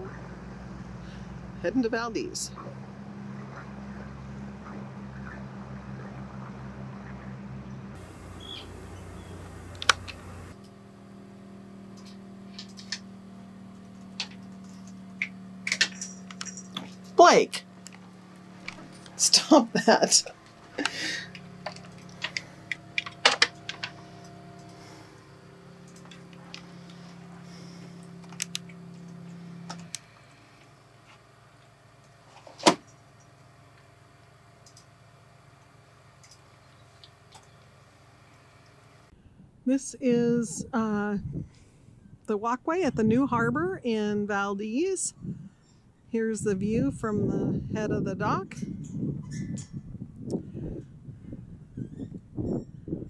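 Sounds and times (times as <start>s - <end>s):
boat engine hum: 0.0s - 49.6s.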